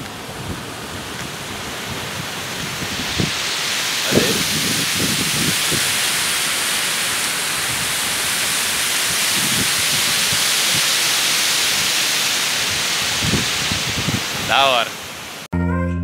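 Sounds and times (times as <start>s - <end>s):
waterfall rushing over rocks: 0.0s - 15.5s.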